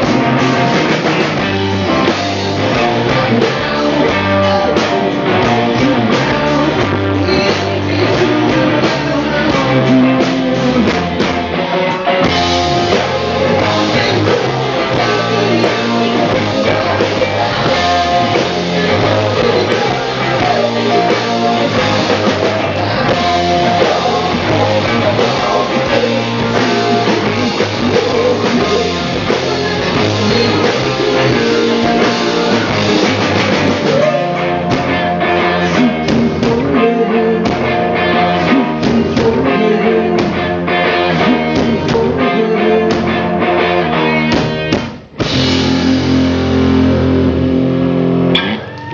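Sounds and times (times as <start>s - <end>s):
rock band playing live: 0.0s - 48.9s
male lead vocal: 2.0s - 44.3s.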